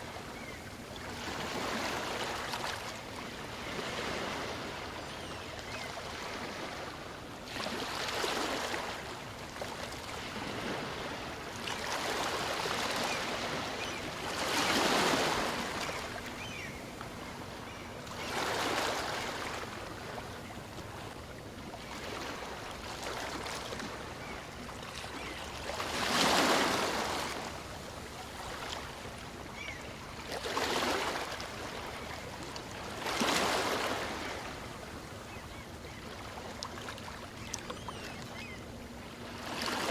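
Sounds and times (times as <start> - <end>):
small waves washing in and out: 0.0 - 39.9.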